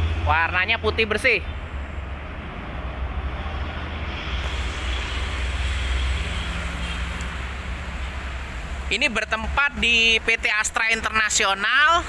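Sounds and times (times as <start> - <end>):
vehicle passing: 0.0 - 10.4
road traffic rumble: 0.0 - 12.0.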